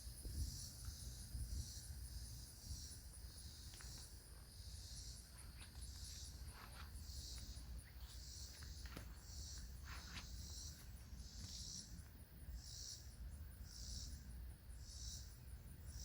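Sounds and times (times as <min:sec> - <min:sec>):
high insect trill: 0:00.0 - 0:16.0
pulsing insect chorus: 0:00.0 - 0:16.0.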